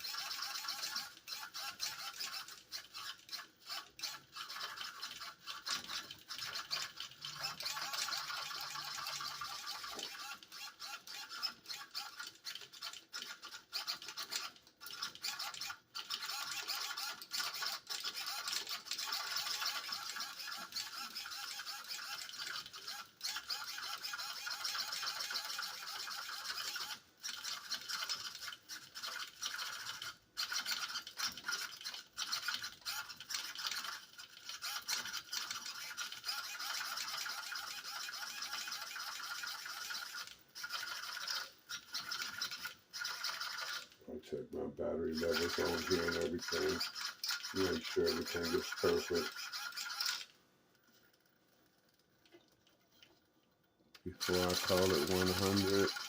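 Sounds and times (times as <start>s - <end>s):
servo buzzing and whirring: 0.0s - 44.0s, 44.8s - 50.4s, 54.0s - 56.0s.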